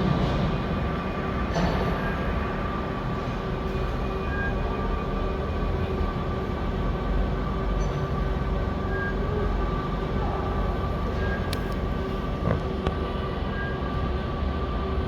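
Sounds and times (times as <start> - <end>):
welding machinery rumble and hum: 0.0 - 15.0.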